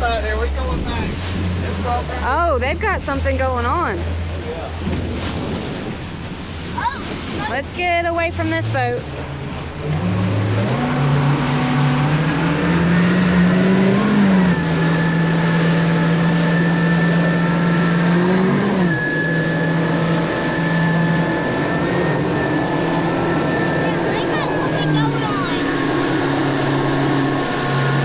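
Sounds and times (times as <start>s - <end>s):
motorboat engine running: 0.0s - 28.0s
water rushing: 0.0s - 28.0s
wind: 0.0s - 28.0s.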